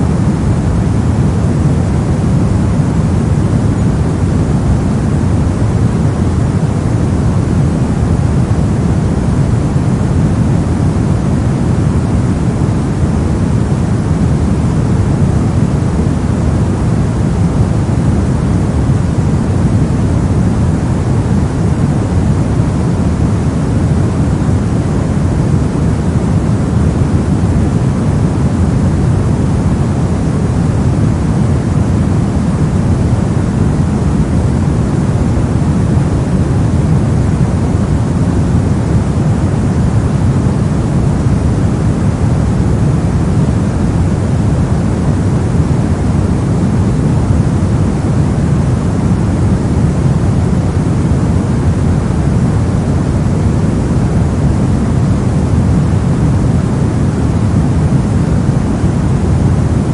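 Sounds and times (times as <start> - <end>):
deep rushing brown noise: 0.0 - 59.9.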